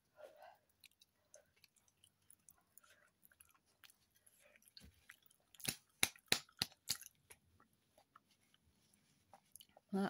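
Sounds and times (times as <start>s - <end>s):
chewing and mouth clicks: 0.6s - 8.7s, 9.3s - 9.9s.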